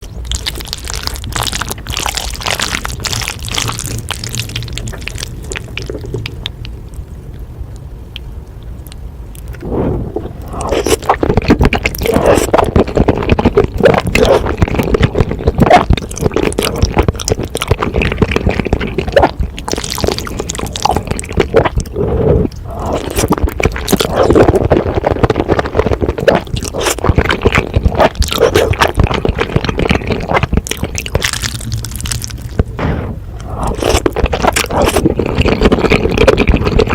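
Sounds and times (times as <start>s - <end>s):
wet chewing and slurping: 0.0s - 6.7s, 9.4s - 36.9s.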